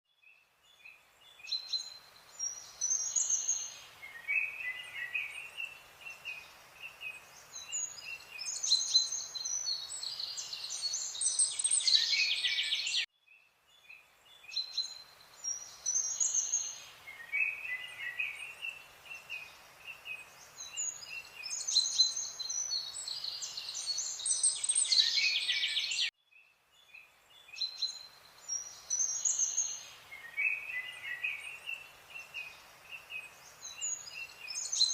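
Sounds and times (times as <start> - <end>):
faint steady hiss: 0.1 - 34.9
birds chirping and trilling: 0.2 - 34.9.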